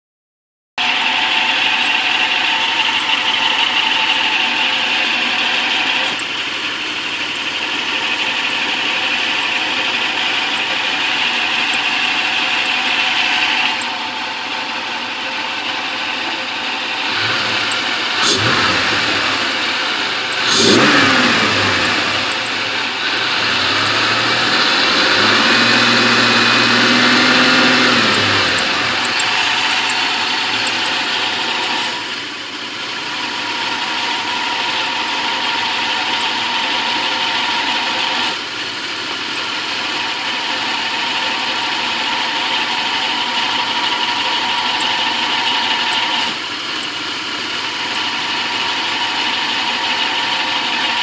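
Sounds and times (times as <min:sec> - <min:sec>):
truck engine running: 0:00.8 - 0:51.0.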